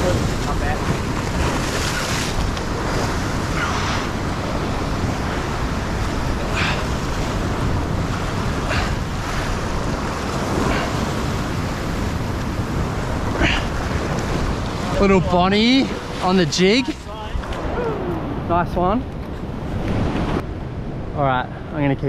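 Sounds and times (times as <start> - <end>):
surf breaking against rocks: 0.0 - 18.0
wind rumbling on microphone: 0.0 - 22.0.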